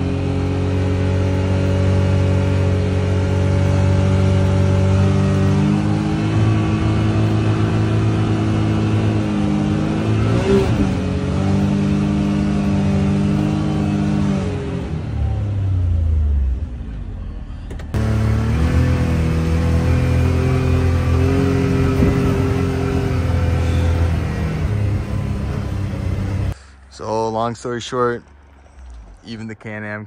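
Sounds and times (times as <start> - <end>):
utility vehicle engine running: 0.0 - 26.8.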